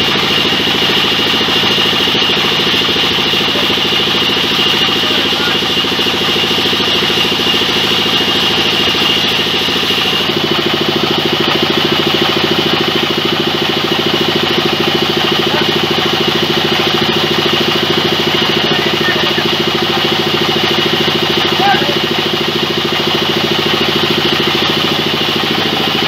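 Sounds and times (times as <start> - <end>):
band saw pulsing drone: 0.0 - 26.0
high saw whine: 0.0 - 26.0.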